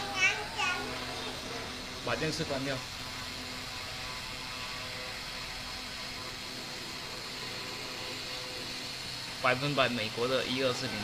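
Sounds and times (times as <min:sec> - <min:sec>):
spindle motor humming: 0:00.0 - 0:11.0.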